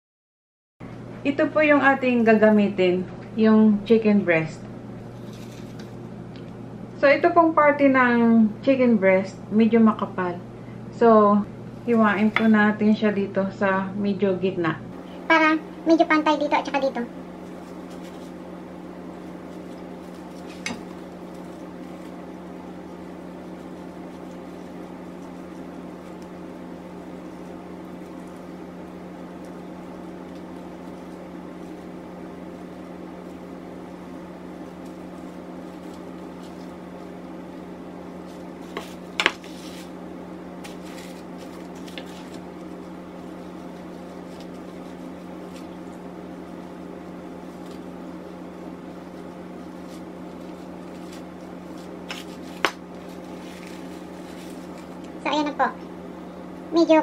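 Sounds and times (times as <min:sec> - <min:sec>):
steady machine hum: 0:00.8 - 0:57.0.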